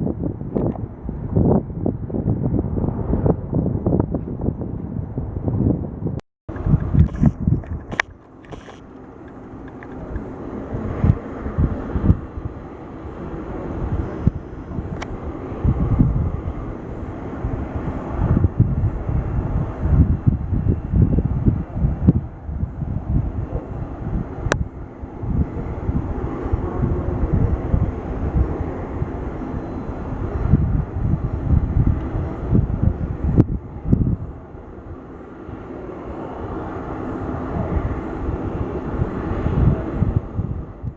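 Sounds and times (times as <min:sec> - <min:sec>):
distant jet engine noise: 0:00.0 - 0:40.9
wind buffeting microphone: 0:00.0 - 0:40.9.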